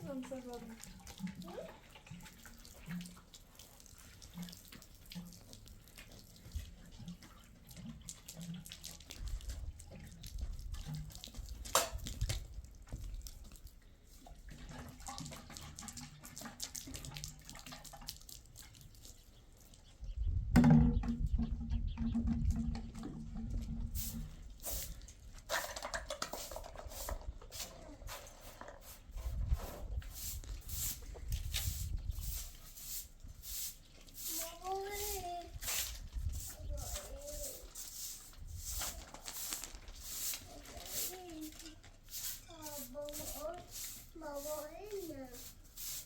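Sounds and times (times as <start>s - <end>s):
water running and splashing: 0.0s - 19.9s, 22.3s - 46.0s.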